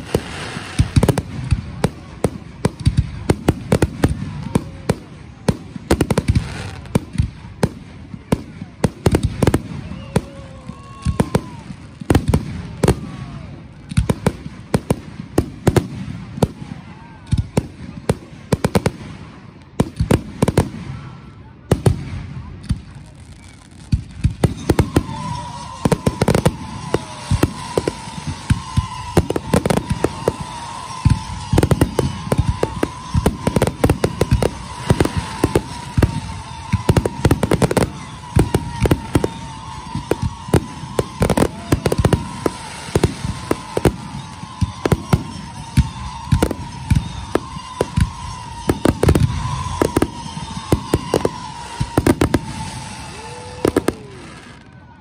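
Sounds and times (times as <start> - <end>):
firework crackle: 0.0 - 55.0.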